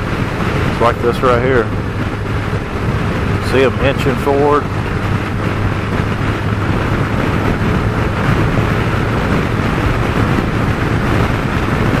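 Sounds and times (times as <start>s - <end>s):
motorcycle engine hum: 0.0s - 12.0s
wind and road noise: 0.0s - 12.0s.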